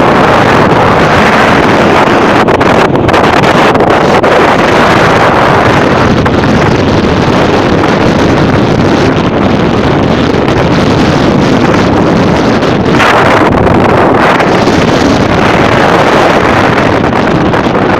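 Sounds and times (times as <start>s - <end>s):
storm wind on microphone: 0.0s - 17.9s.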